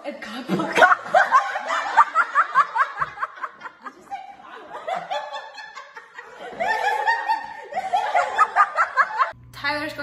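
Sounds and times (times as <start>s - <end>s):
young people laughing: 0.4s - 9.4s.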